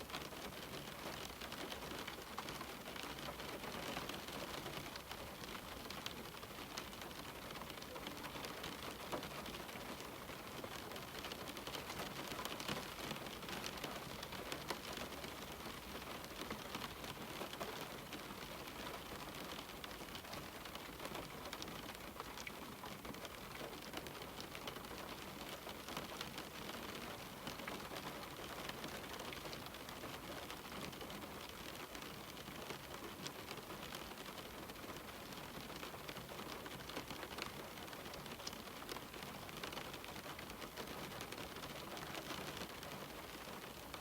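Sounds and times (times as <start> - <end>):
rain pattering on window glass: 0.0 - 44.0.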